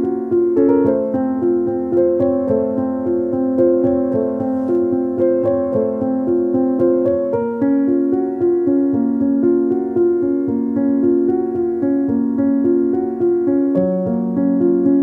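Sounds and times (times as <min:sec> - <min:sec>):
piano-like keyboard music: 0:00.0 - 0:15.0.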